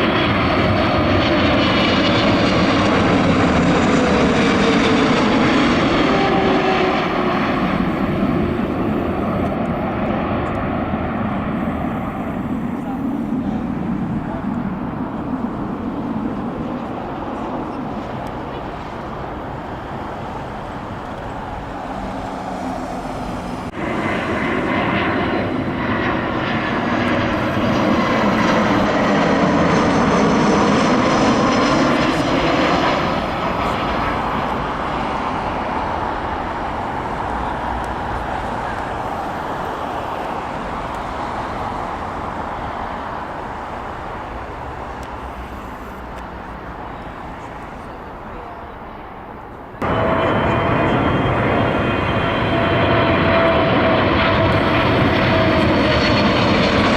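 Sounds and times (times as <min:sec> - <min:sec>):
jet engines passing: 0:00.0 - 0:56.9.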